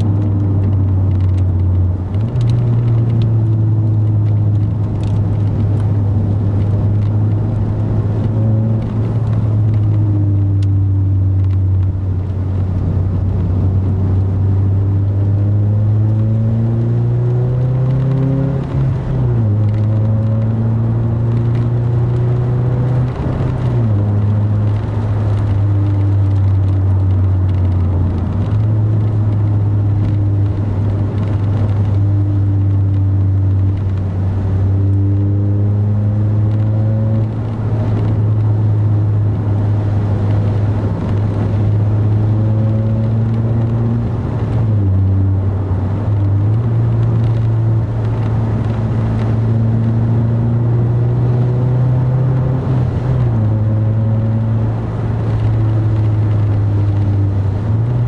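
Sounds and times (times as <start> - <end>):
car engine and exhaust drone: 0.0 - 58.0.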